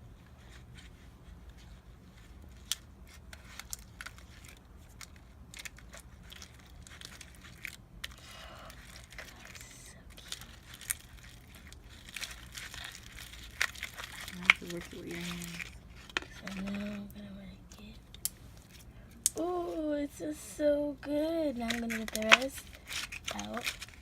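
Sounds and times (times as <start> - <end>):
slime clicking and crackling: 2.1 - 19.7, 21.3 - 24.0.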